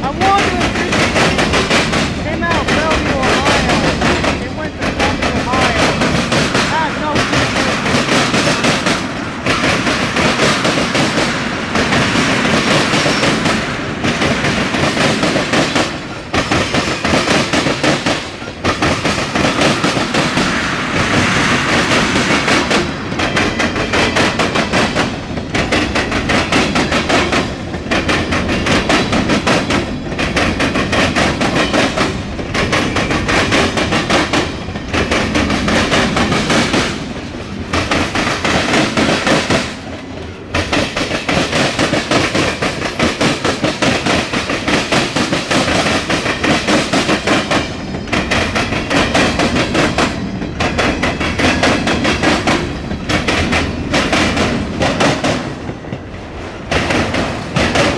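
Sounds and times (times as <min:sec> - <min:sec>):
freight train wheels clattering: 0:00.0 - 0:57.9.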